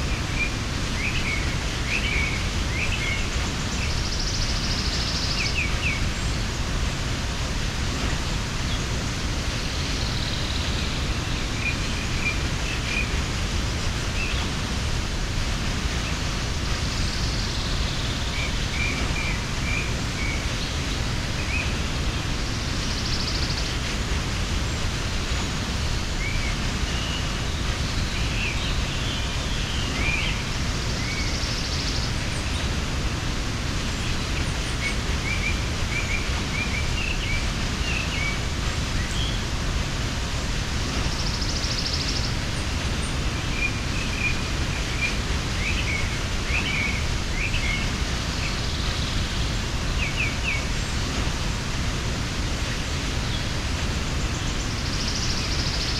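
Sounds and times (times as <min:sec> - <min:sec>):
small birds chirping: 0:00.0 - 0:55.9
waterfall roaring: 0:00.0 - 0:55.9.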